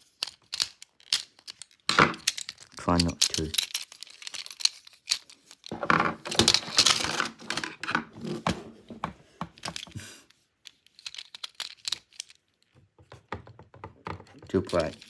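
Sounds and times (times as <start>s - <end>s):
plastic toy parts clicking: 0.0s - 8.6s, 9.4s - 12.7s, 14.2s - 15.0s.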